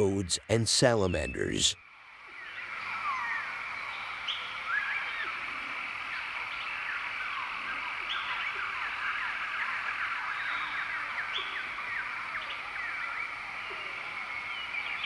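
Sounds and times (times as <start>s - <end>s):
chorus of birds chirping: 0.0s - 15.0s.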